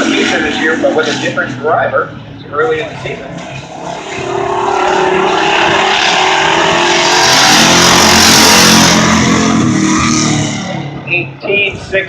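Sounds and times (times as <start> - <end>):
race car engine at full throttle: 0.0 - 12.0.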